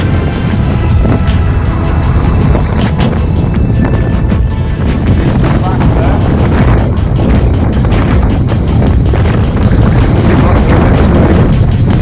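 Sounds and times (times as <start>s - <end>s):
background music with quick beat: 0.0s - 12.0s.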